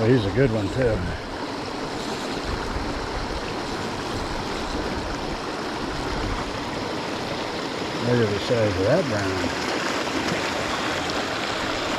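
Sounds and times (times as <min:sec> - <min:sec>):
creek water running: 0:00.0 - 0:11.9.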